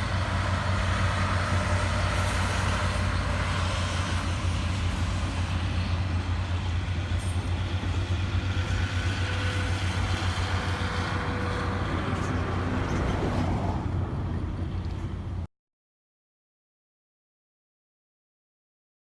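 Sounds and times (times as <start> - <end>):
diesel locomotive engine drone: 0.0 - 15.5
train running noise: 0.0 - 15.5.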